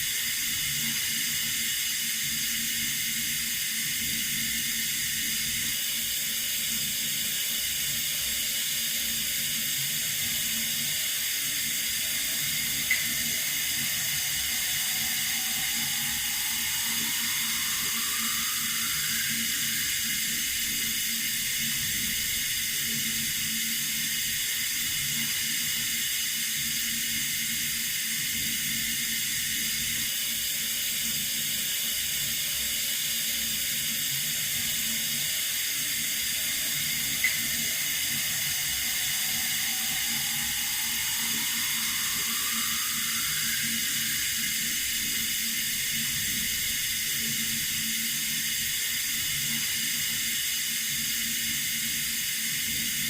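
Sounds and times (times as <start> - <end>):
water running from a tap: 0.0 - 30.0, 33.0 - 53.0.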